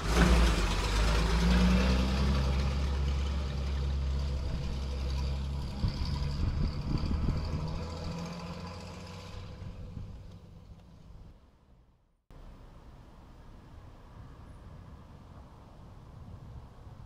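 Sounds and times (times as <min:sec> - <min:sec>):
vehicle engine running at low speed: 0:00.0 - 0:17.0.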